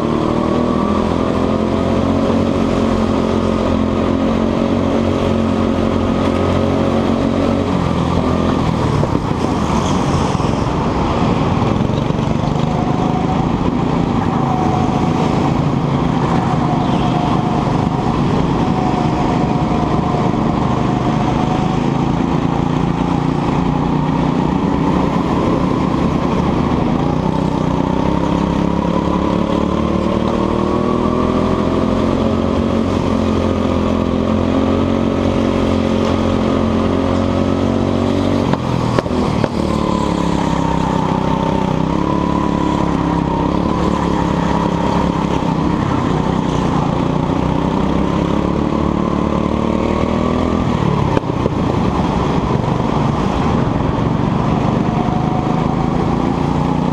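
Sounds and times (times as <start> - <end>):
go-kart engine revving: 0.0 - 56.9.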